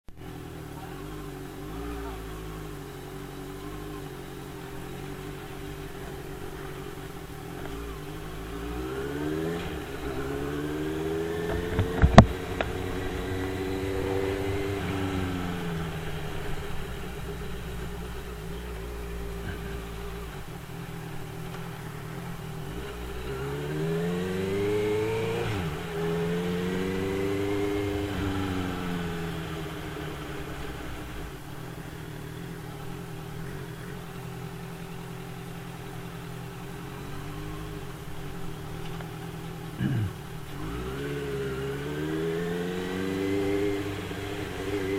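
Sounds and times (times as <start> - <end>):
motorcycle engine revving: 0.1 - 44.9.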